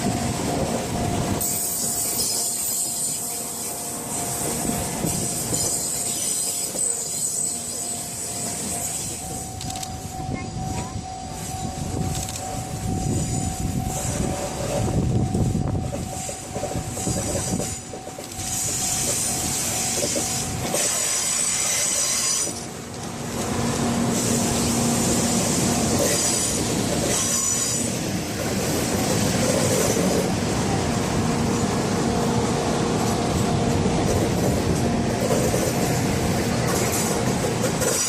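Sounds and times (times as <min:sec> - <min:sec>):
train wheels squealing on rails: 0:00.0 - 0:22.9, 0:23.6 - 0:30.4, 0:31.2 - 0:38.0
train rolling rumble: 0:00.0 - 0:38.0.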